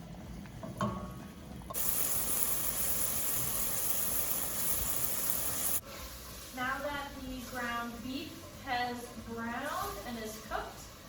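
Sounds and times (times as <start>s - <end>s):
meat sizzling in a pot: 1.7s - 11.0s.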